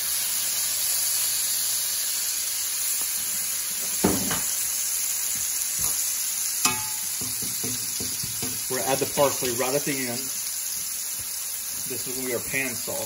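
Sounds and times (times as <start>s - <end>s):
scallops sizzling in skillet: 0.0s - 13.0s.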